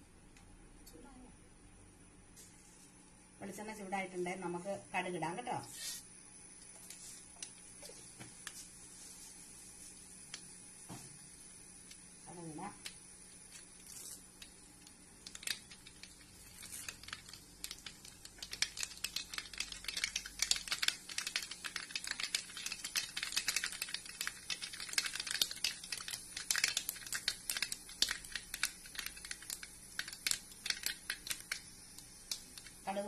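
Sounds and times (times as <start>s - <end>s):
mustard seeds popping in oil: 6.4s - 33.0s.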